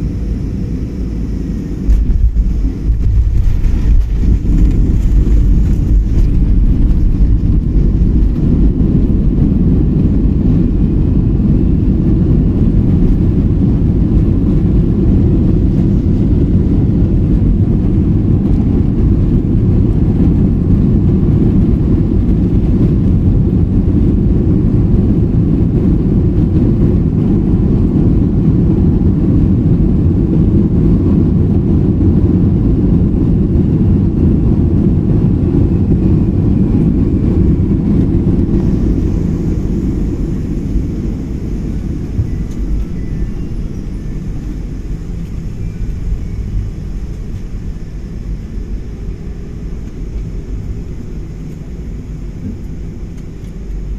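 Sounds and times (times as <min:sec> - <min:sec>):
plane landing rumble: 0:00.0 - 0:53.9.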